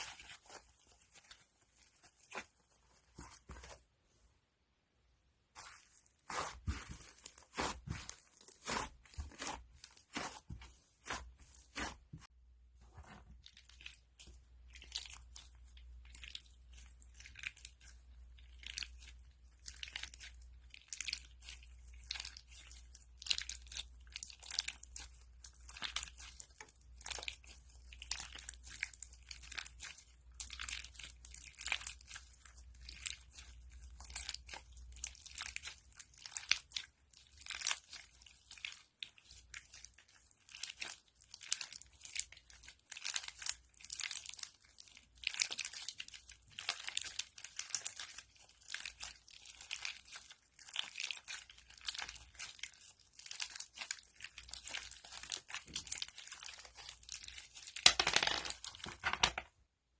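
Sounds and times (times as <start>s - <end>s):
slime crackling and popping: 5.6s - 12.3s, 13.4s - 59.4s.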